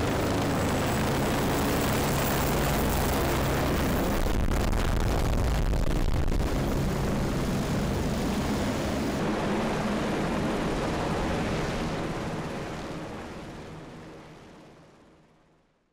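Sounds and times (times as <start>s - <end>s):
helicopter rotors thrumming: 0.0s - 13.7s.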